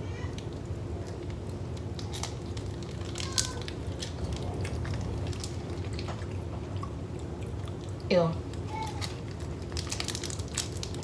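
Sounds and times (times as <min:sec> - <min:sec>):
low steady hum: 0:00.0 - 0:11.0
snack crackling while bitten: 0:00.4 - 0:11.0.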